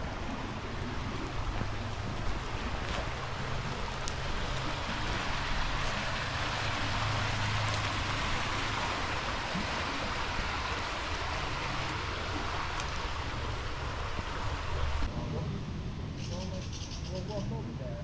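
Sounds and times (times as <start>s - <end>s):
rushing water: 0.0s - 16.1s.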